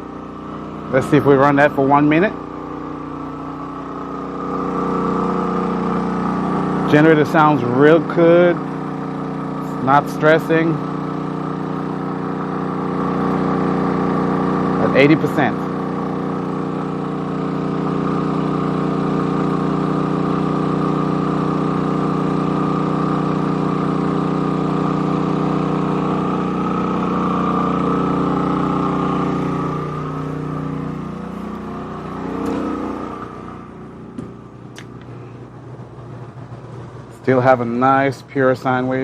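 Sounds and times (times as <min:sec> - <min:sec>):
generator engine running: 0:00.0 - 0:39.0.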